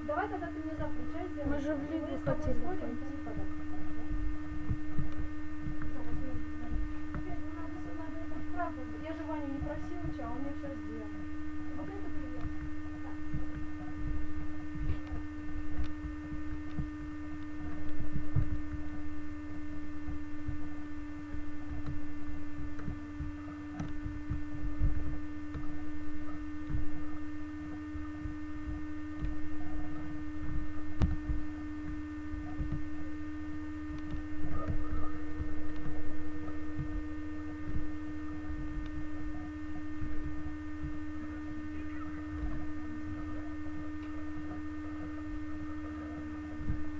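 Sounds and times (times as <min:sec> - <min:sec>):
electrical hum: 0:00.0 - 0:46.9
low rumbling: 0:00.0 - 0:46.9.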